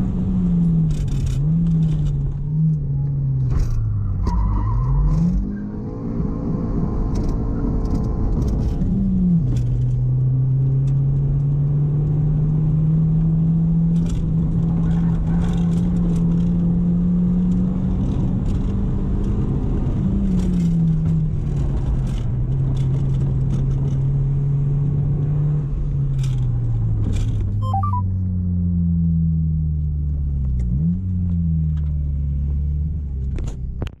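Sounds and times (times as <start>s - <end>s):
car engine while driving: 0.0s - 34.0s.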